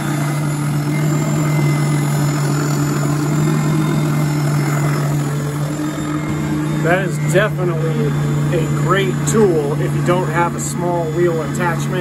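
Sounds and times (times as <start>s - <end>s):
spindle sander humming: 0.0s - 12.0s.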